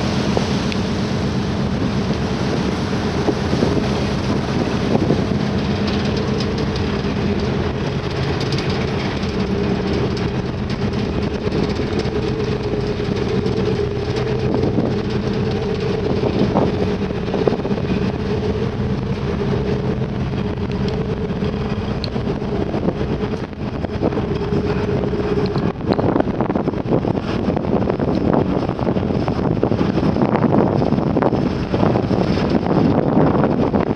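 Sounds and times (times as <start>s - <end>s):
rushing wind and water: 0.0s - 33.9s
ship engine hum: 0.0s - 33.9s.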